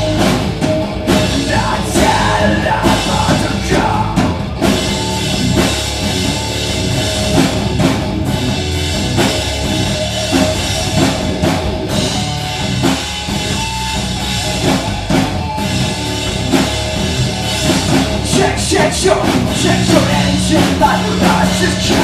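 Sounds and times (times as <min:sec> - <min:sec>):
bass drum beat: 0:00.0 - 0:22.0
rock band playing: 0:00.0 - 0:22.0.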